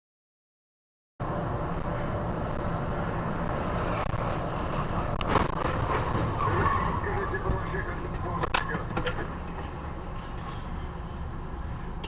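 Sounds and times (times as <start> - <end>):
car road and engine noise: 1.2 - 12.0.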